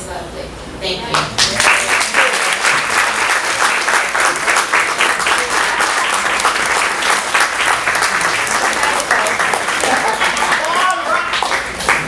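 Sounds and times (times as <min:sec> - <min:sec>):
audience applauding: 0:01.4 - 0:12.0.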